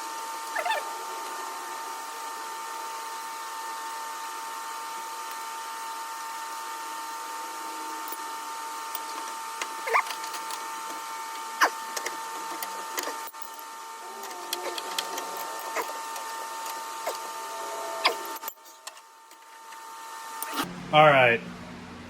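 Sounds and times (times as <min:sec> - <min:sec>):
high electrical hum: 0:00.0 - 0:22.0.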